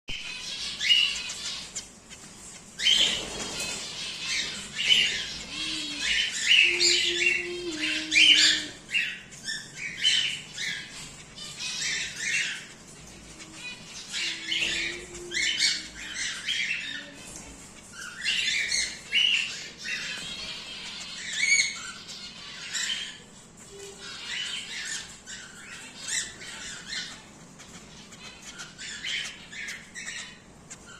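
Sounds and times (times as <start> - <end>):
cockatiels squawking and chirping: 0.1 - 30.9.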